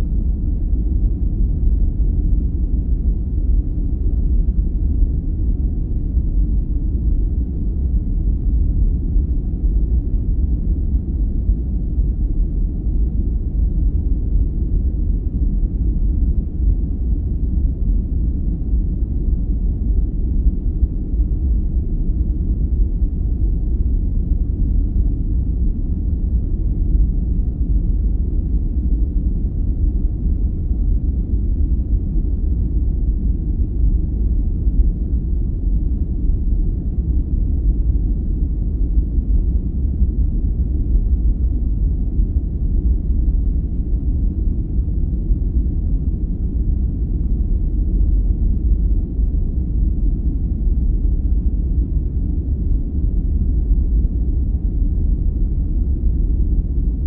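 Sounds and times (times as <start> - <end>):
low rumbling brown noise: 0.0 - 57.0.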